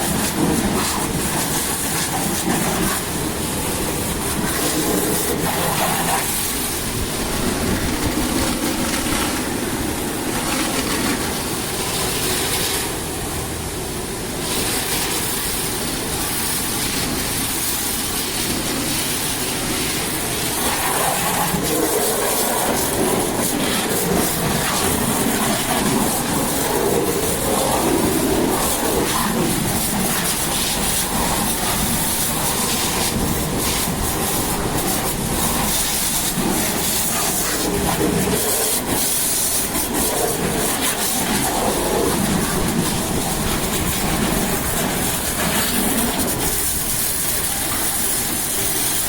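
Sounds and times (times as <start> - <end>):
high-pressure water jet hissing: 0.0 - 49.0
machine rumble: 0.0 - 49.0.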